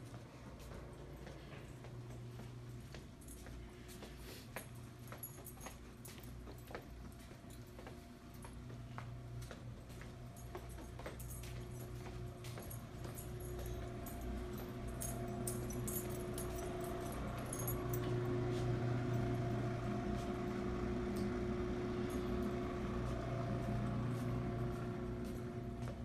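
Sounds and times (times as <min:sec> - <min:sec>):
vending machine electrical hum: 0:00.0 - 0:26.0.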